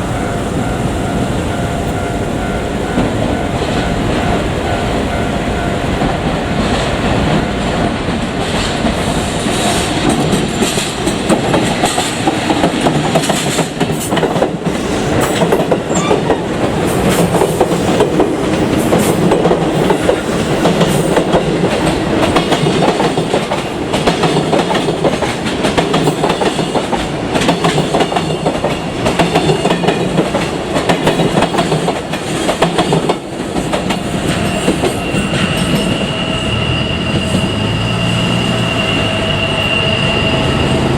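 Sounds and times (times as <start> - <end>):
train wheels clacking over rail joints: 2.9 - 36.2.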